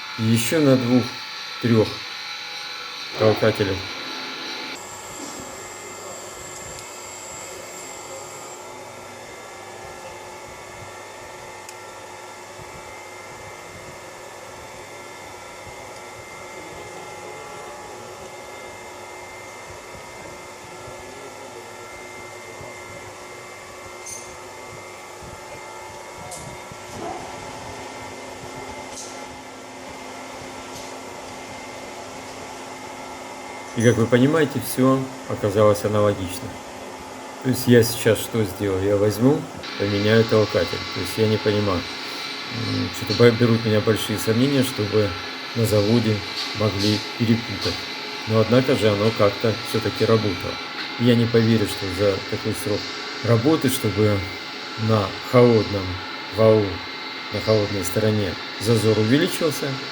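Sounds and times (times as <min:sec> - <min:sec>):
electric machine whine and hum: 0:00.0 - 0:59.9.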